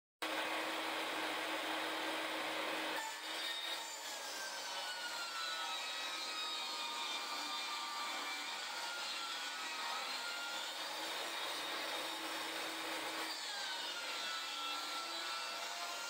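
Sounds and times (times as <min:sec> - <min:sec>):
table saw cutting a board: 0:00.2 - 0:16.0.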